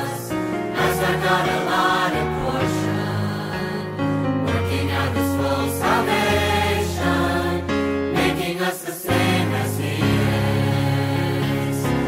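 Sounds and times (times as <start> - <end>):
choir singing a hymn: 0.0 - 12.0.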